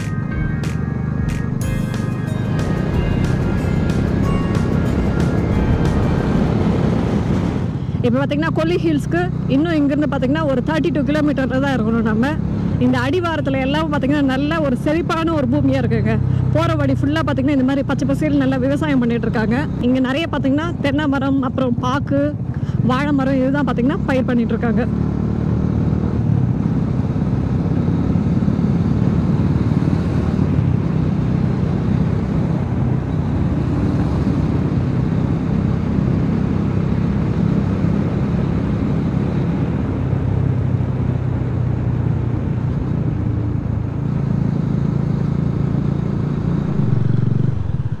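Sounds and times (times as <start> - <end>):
motorcycle engine and road rumble: 0.0 - 48.0.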